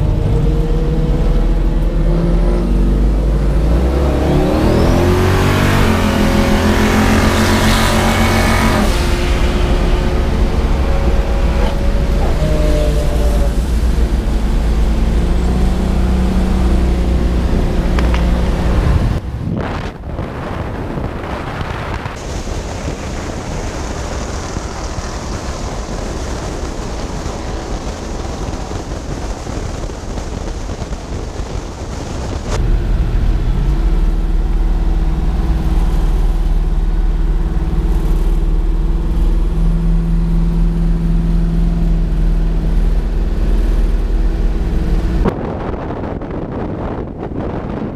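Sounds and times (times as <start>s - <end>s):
car engine low drone: 0.0s - 47.9s.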